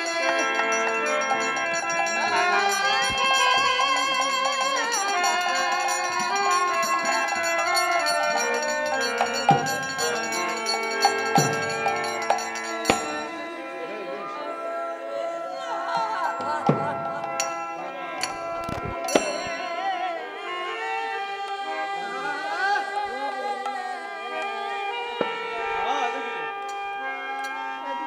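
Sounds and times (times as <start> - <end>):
sustained drone tones: 0.0 - 27.6
flute melody: 0.0 - 28.0.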